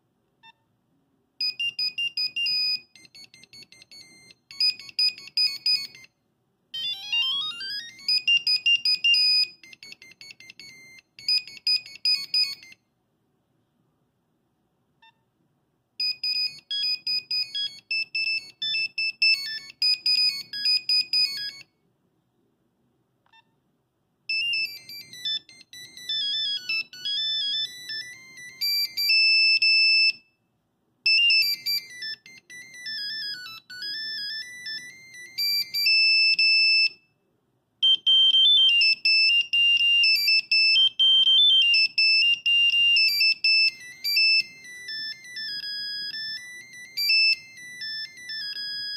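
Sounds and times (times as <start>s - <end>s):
monophonic ringtone beeps: 1.4s - 6.2s, 6.8s - 12.8s, 16.0s - 21.7s, 24.3s - 30.4s, 31.0s - 37.2s, 37.8s - 48.9s.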